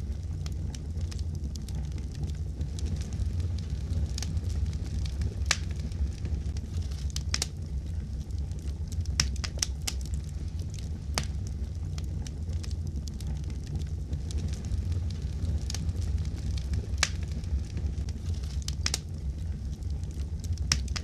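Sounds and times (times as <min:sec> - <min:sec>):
steady low rumble: 0:00.0 - 0:21.0
wood fire crackling and popping: 0:00.0 - 0:21.0.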